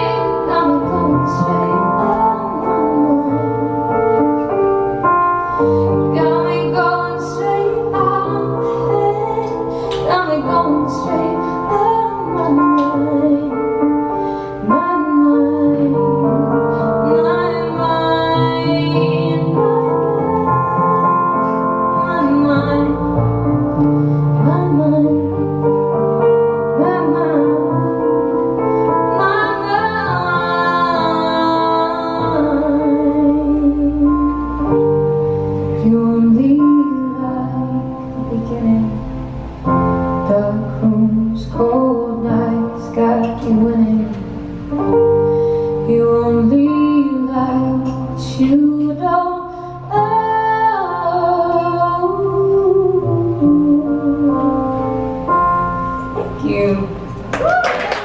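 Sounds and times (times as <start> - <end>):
woman singing: 0.0 - 3.9, 5.9 - 23.5, 24.3 - 25.8, 26.5 - 34.5, 35.8 - 39.2, 40.2 - 44.3, 45.8 - 54.9, 56.2 - 57.0
electric piano chords: 0.0 - 58.0.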